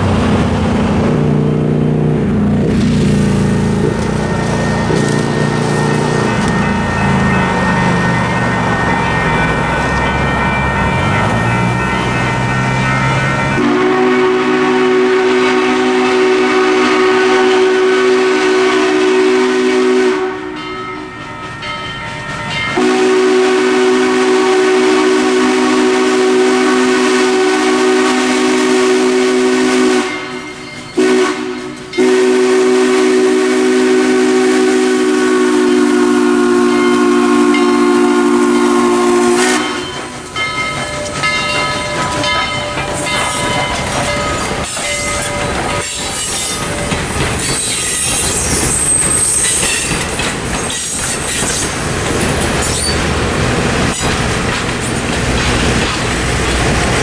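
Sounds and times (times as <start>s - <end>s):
train rolling: 0.0s - 57.0s
steam locomotive chime whistle: 4.1s - 50.0s.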